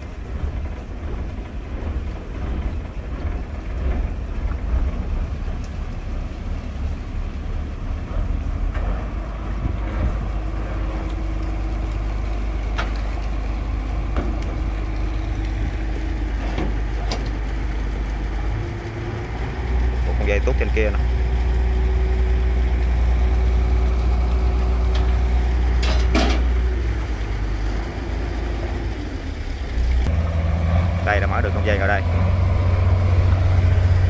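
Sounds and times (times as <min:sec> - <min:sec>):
boat engine rumbling: 0:00.0 - 0:34.0.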